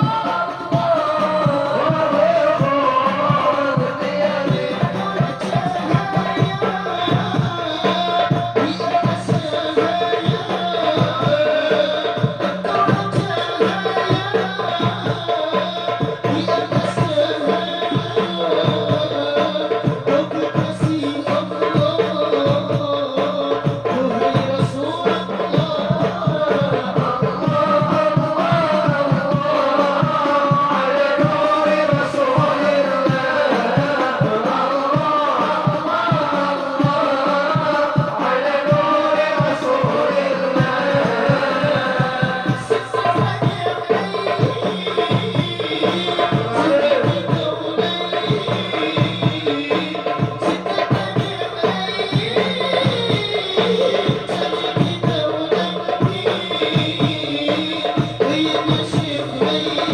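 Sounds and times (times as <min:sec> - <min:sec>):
group singing devotional songs: 0:00.0 - 0:59.9
hand drums beating: 0:00.0 - 0:59.9.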